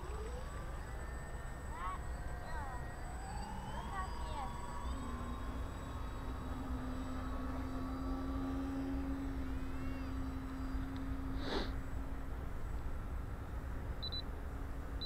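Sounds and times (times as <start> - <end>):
model aircraft motors humming: 0.0 - 15.0.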